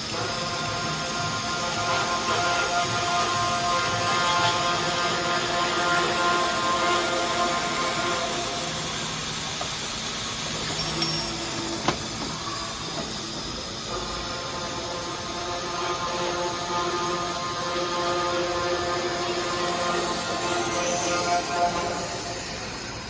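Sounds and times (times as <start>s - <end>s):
cold saw machine running: 0.0s - 23.0s.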